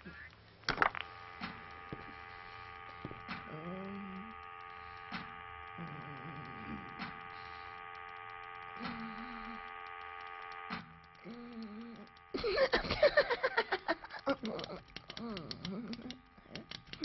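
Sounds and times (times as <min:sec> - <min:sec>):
electrical machine hum: 0:00.0 - 0:17.0
low wavering tones: 0:00.0 - 0:17.0
rapid clicks: 0:00.0 - 0:17.0
sharp ticks: 0:00.0 - 0:17.0.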